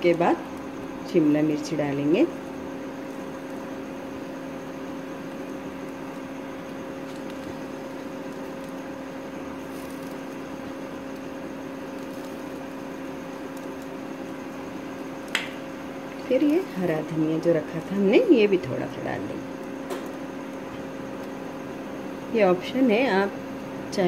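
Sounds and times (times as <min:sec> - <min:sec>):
kitchen appliance humming: 0:00.0 - 0:24.0.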